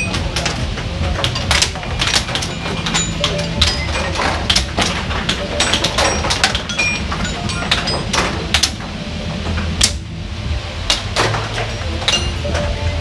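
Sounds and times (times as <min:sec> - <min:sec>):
air hockey pucks clacking: 0:00.0 - 0:10.1, 0:10.8 - 0:13.0
steady low hum: 0:00.0 - 0:13.0.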